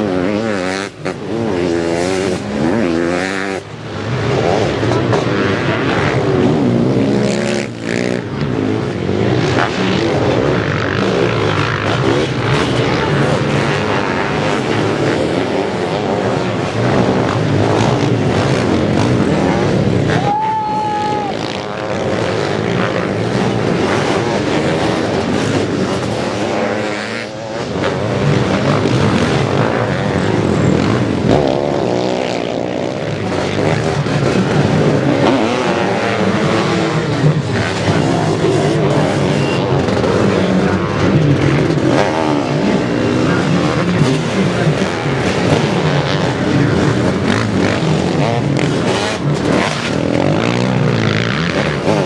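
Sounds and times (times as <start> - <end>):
motocross engines revving: 0.0 - 52.0.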